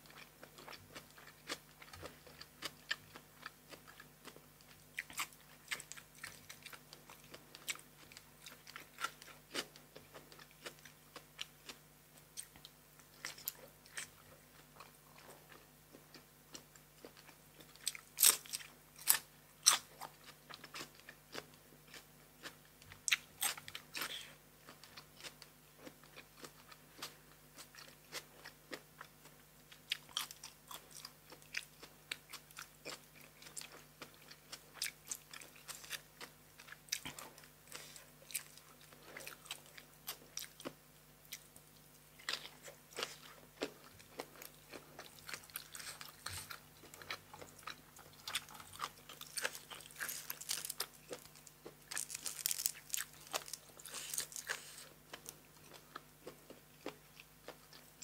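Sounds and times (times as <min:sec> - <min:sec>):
chewing crisp food: 0:00.0 - 0:58.0.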